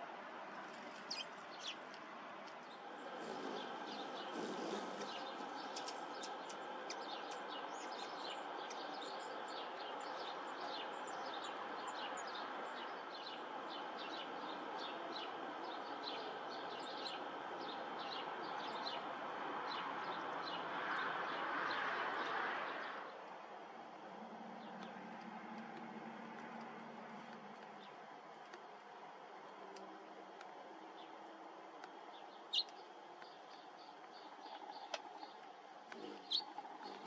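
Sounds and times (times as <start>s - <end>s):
steady outdoor hiss: 0.0s - 37.0s
small birds chirping: 0.6s - 23.1s, 23.8s - 37.0s.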